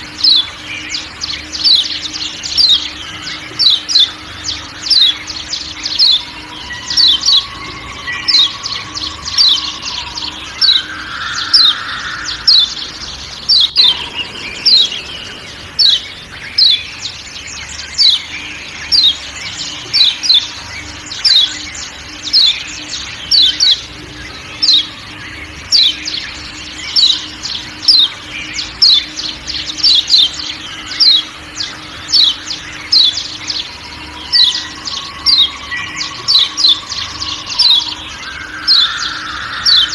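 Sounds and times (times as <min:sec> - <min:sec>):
bird chipping calls: 0:00.0 - 0:39.9
low steady drone: 0:00.0 - 0:39.9.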